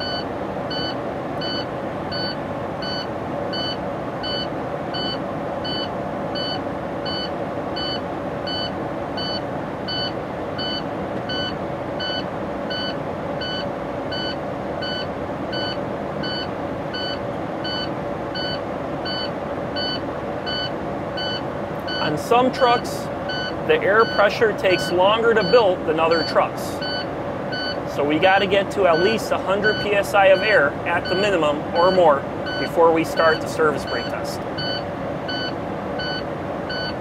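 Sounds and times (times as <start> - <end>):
warning buzzer beeping: 0.0 - 22.1, 22.7 - 27.8, 28.9 - 37.0
diesel truck engine at raised revs: 0.0 - 37.0.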